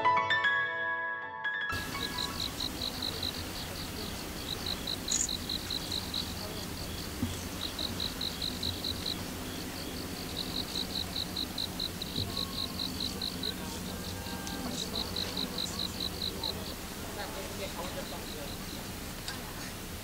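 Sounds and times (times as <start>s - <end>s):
crickets chirping: 1.8s - 20.0s
low steady rumble: 1.8s - 20.0s.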